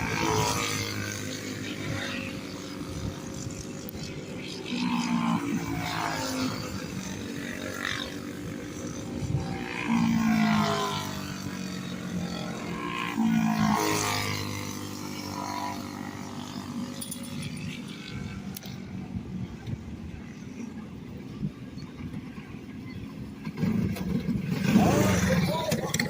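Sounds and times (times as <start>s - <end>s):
small racing engines running: 0.0s - 26.0s.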